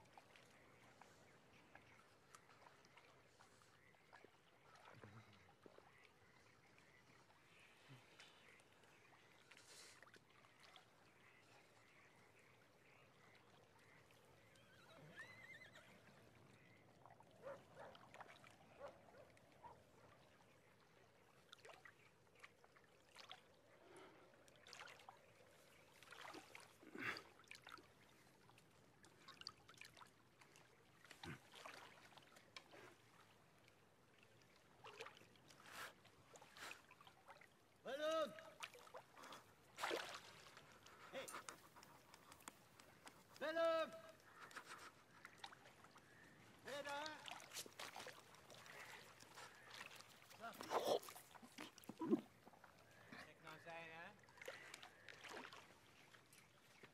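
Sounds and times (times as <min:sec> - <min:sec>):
water sloshing and splashing: 0:00.0 - 0:15.1, 0:15.8 - 0:53.4, 0:54.1 - 0:56.9
water dripping and trickling: 0:00.0 - 0:56.9.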